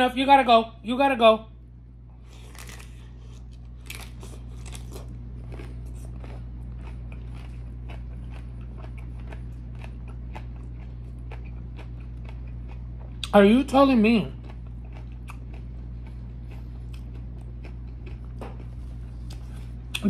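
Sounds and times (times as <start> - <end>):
steady low hum: 0.0 - 20.0
crunchy food being chewed: 2.2 - 13.3, 14.3 - 20.0.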